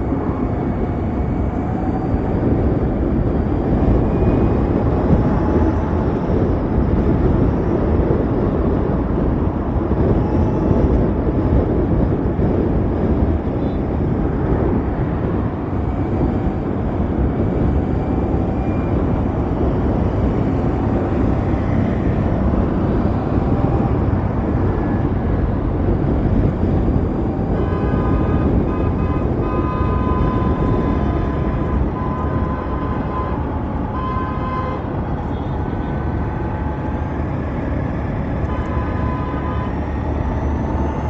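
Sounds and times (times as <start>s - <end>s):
wind and road noise: 0.0s - 41.0s.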